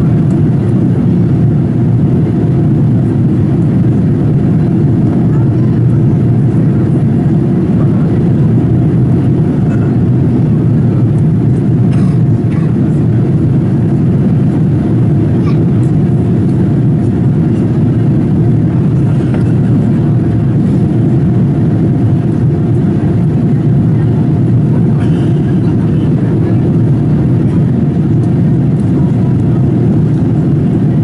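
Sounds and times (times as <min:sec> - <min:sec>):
airplane cabin engine drone: 0:00.0 - 0:31.0.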